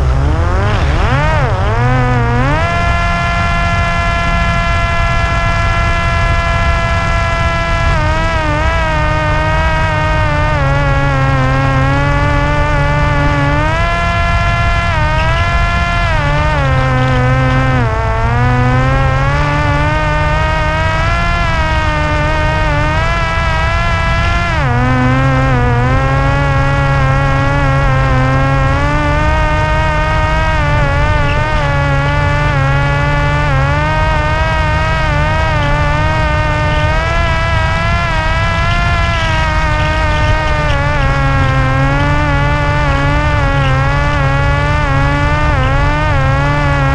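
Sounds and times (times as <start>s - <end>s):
electric motor and propeller whining: 0.0s - 46.9s
wind rumble on microphone: 0.0s - 46.9s.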